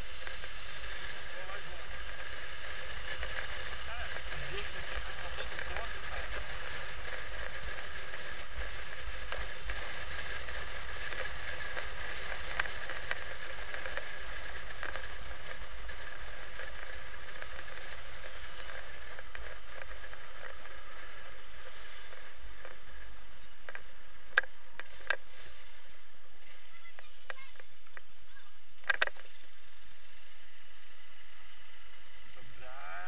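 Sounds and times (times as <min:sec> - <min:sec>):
small rattling ticks: 0:00.0 - 0:25.7, 0:26.3 - 0:30.7
low motorcycle engine rumble: 0:00.0 - 0:33.0
wind and road noise: 0:00.0 - 0:33.0.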